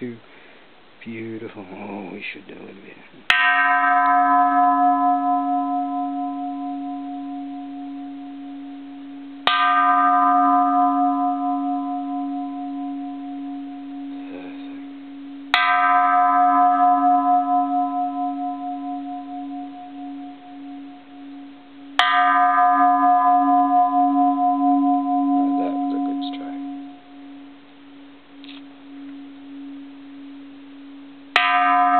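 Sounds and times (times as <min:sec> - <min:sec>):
temple bell ringing: 0:03.3 - 0:31.9.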